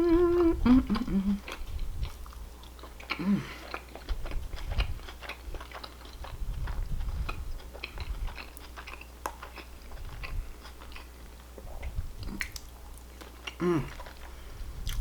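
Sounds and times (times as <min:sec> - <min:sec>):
person chewing wetly: 0:00.0 - 0:15.0.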